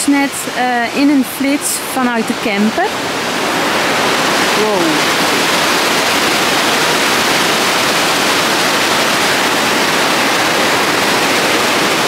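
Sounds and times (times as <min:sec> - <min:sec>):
river rushing over a weir: 0:00.0 - 0:12.0.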